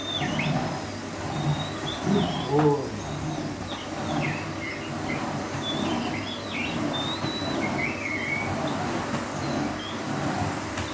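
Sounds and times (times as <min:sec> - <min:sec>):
vacuum cleaner running: 0:00.0 - 0:10.9.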